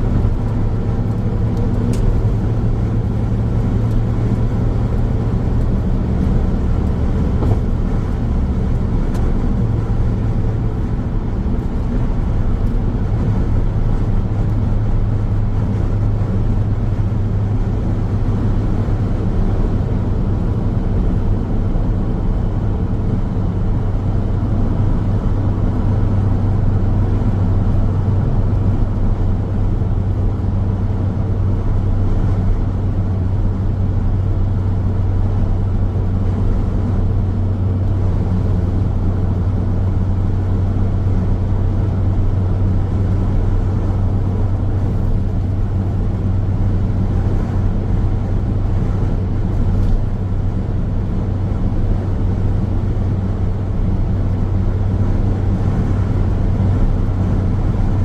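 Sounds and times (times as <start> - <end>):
car engine humming: 0.0 - 58.0
car tyres on road: 0.0 - 58.0.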